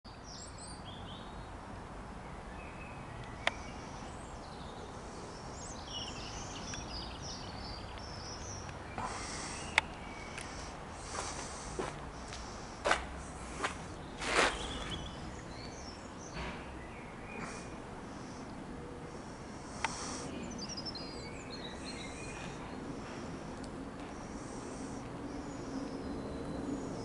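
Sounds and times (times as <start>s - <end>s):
small birds chirping: 0.1s - 27.0s.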